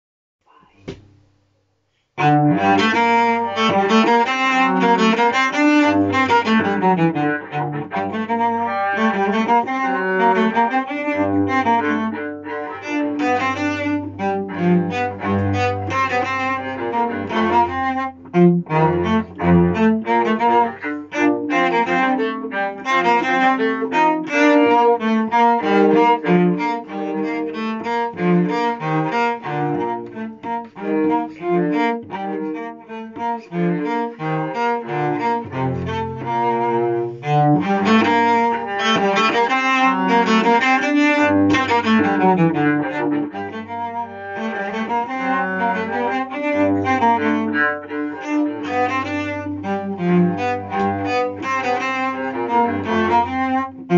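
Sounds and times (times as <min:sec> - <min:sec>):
cello playing bass line: 0:02.2 - 0:53.9.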